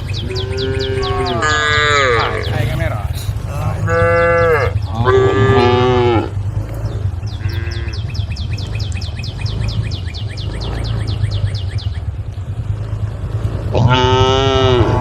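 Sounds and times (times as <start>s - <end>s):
cattle mooing: 0.0s - 11.7s, 12.6s - 15.0s
steady low hum: 0.0s - 15.0s.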